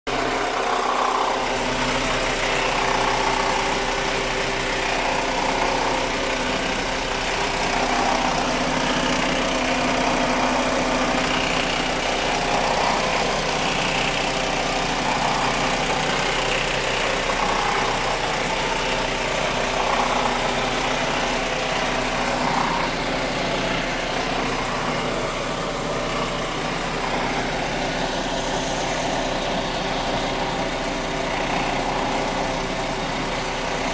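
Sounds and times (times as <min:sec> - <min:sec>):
car engine idling with snoring: 0:00.1 - 0:33.9.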